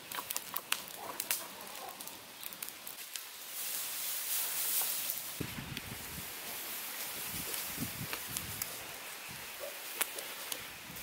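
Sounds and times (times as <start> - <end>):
burning straw crackling: 0.0 - 11.0
dry straw rustling: 0.0 - 11.0.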